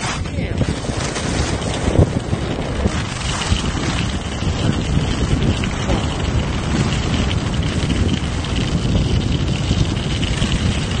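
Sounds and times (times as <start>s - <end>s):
skis sliding on snow: 0.0s - 11.0s
wind rumbling over microphone: 0.0s - 11.0s.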